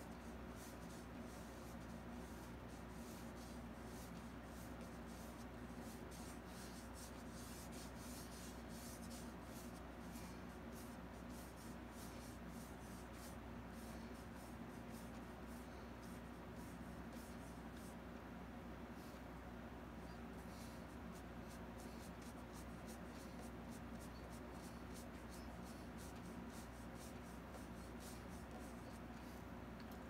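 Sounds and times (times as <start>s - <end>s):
paintbrush strokes on canvas: 0.0s - 18.0s, 20.1s - 29.5s
steady low hum: 0.0s - 30.0s.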